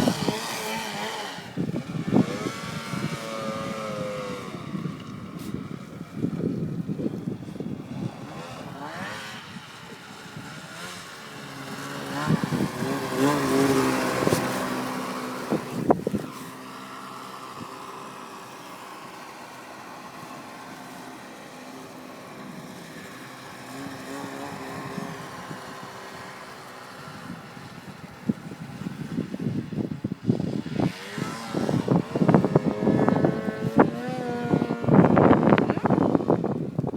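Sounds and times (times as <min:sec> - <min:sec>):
snowmobile engine revving: 0:00.0 - 0:36.9.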